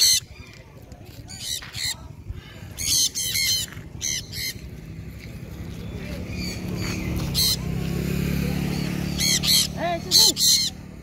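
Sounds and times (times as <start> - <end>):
conures screeching: 1.2 - 8.0, 8.6 - 11.0.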